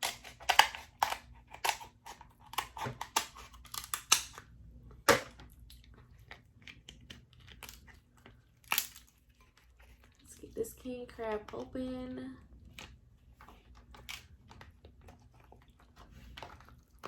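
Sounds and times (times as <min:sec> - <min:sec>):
wet chewing clicks and crackles: 0:00.0 - 0:10.6, 0:12.5 - 0:17.0.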